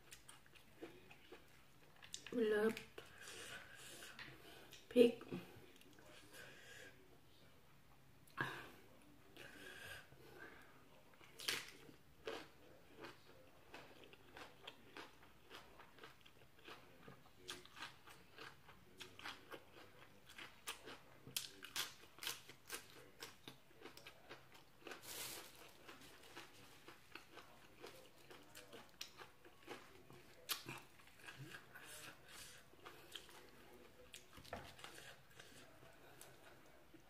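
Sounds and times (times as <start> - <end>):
person chewing crunchy vegetables: 0.0 - 4.8, 11.2 - 37.0.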